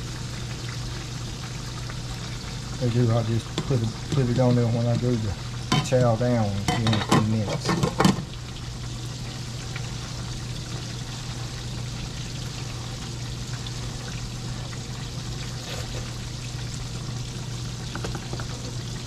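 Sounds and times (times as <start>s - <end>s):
constant low hum: 0.0s - 19.0s
steak sizzling in hot grease: 0.0s - 19.0s.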